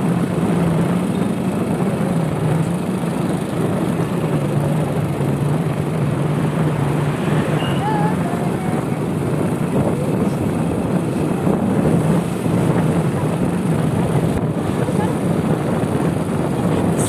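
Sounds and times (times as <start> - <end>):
vehicle road rumble: 0.0 - 17.0
wind noise: 0.0 - 17.0.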